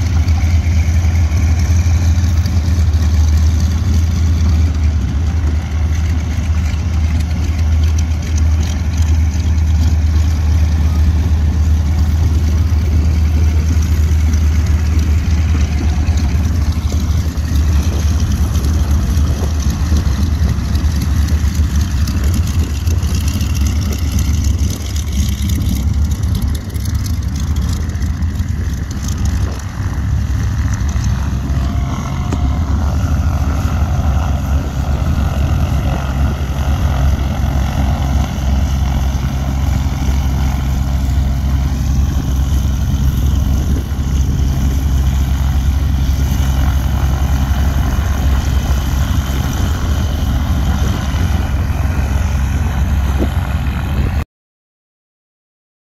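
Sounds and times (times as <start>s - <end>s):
propeller aircraft engine droning: 0.0s - 54.2s.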